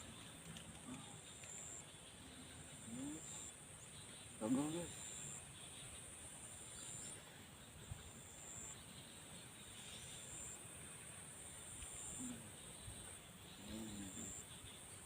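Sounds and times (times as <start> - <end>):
faint hiss: 0.0 - 15.0
insects chirring: 0.0 - 15.0.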